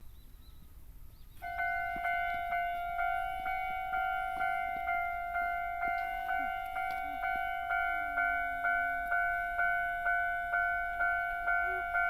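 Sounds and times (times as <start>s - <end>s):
level crossing warning bell: 1.4s - 12.0s.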